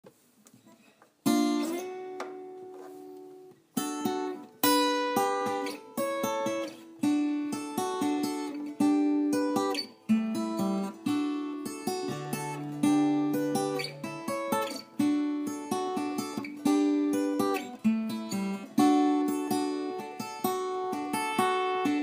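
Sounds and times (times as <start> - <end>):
acoustic guitar music: 0.1 - 22.0.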